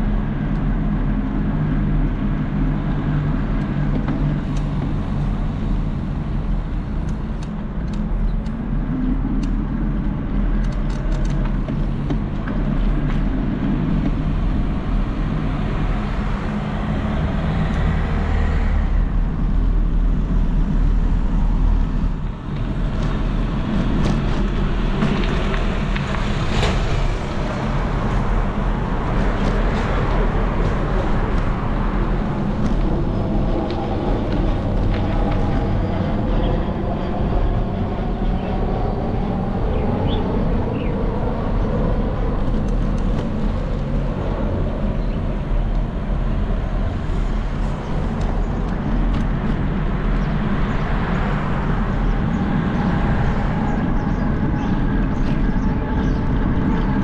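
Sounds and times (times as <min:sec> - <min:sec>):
vehicle engines running: 0:00.0 - 0:57.0.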